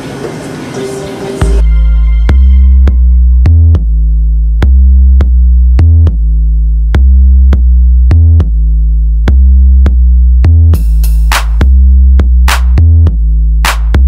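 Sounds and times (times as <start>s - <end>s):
loud electronic music: 0.8s - 14.0s.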